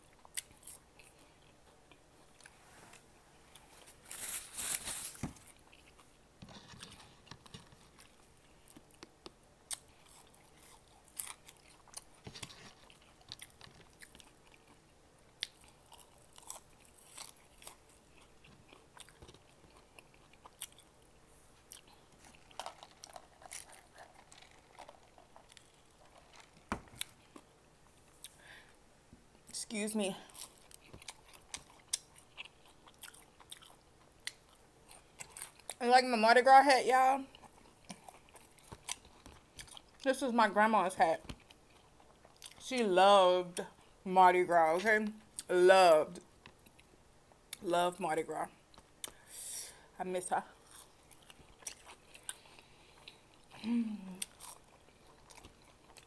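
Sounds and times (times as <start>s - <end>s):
person chewing food: 0.0s - 4.1s, 5.4s - 29.5s, 30.2s - 35.8s, 37.3s - 40.0s, 41.2s - 42.6s, 46.2s - 47.6s, 48.6s - 49.3s, 50.5s - 56.0s.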